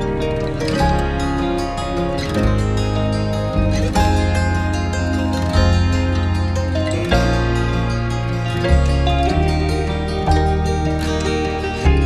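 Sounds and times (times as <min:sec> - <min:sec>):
plucked notes over low tones: 0:00.0 - 0:12.0.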